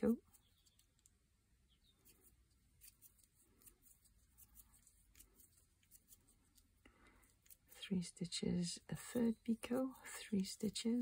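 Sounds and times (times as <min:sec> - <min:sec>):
soft ticks and thread rustles: 0:00.0 - 0:11.0.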